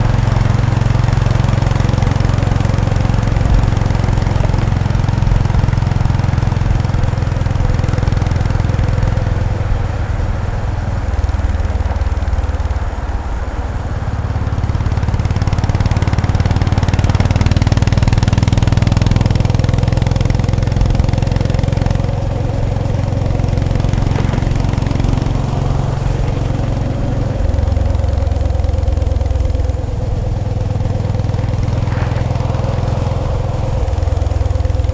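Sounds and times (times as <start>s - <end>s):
motorcycle engine and exhaust running: 0.0s - 34.9s.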